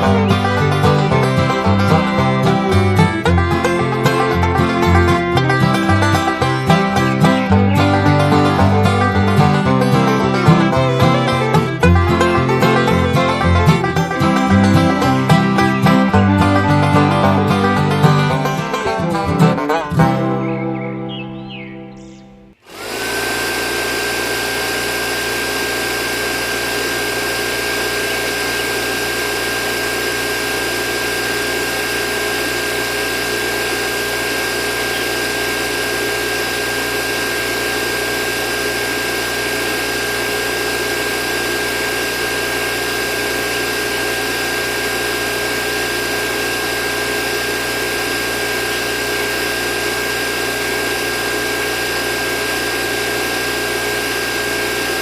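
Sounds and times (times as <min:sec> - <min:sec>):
small motor whining: 0:00.0 - 0:19.0, 0:22.1 - 0:55.0.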